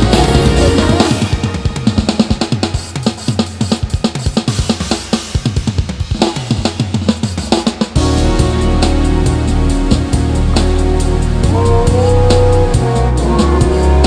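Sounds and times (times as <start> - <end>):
rapid drum break: 0.0 - 14.0.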